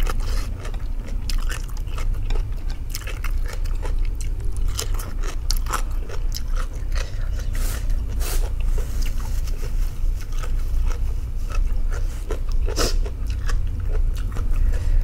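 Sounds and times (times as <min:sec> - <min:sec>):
mouth chewing food: 0:00.0 - 0:15.0.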